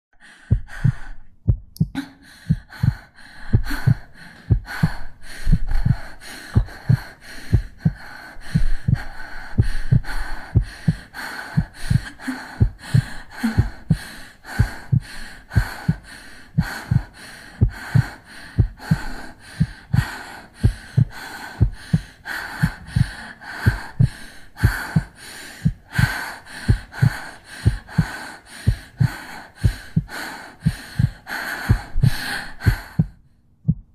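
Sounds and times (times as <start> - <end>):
breathing: 0.2 - 1.3, 2.0 - 33.4
heartbeat thumps: 0.3 - 33.9.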